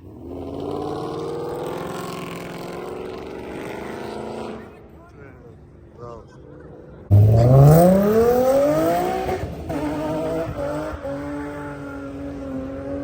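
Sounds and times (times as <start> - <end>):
car accelerating with loud exhaust: 0.0 - 4.9, 6.8 - 13.0.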